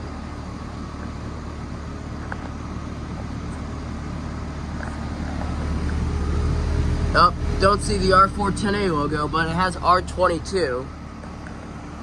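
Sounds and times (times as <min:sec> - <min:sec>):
air conditioner unit humming: 0:00.0 - 0:12.0.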